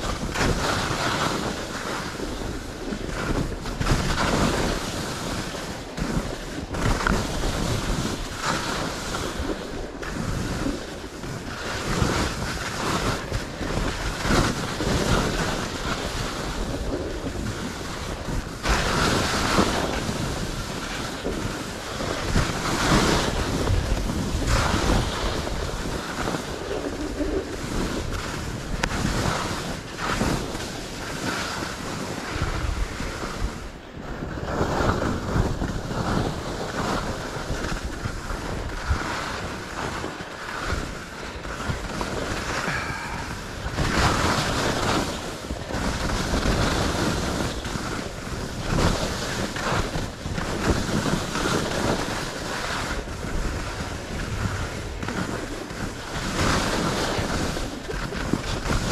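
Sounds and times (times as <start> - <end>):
skis scraping over snow: 0.0 - 58.9
wind rushing over microphone: 0.0 - 58.9.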